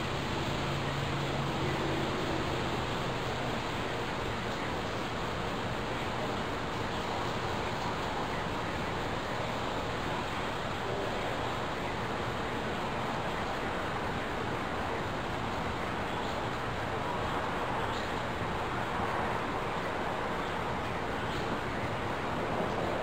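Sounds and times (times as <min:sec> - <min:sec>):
rain: 0:00.0 - 0:23.0
wind: 0:00.0 - 0:23.0.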